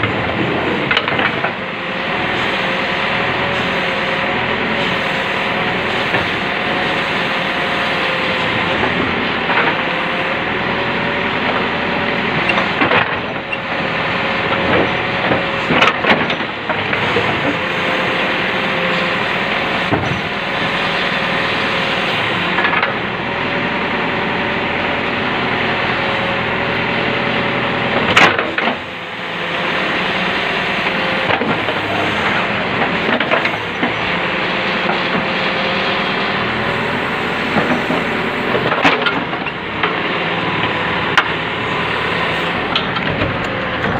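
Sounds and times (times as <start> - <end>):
diesel earthmoving machine whining: 0.0 - 43.9.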